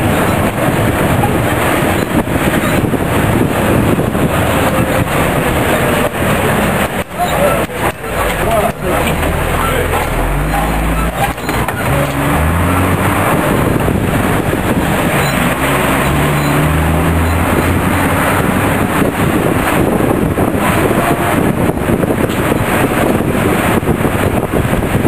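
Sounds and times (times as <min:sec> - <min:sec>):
road and wind noise: 0:00.0 - 0:25.0
vehicle engine: 0:00.0 - 0:25.0.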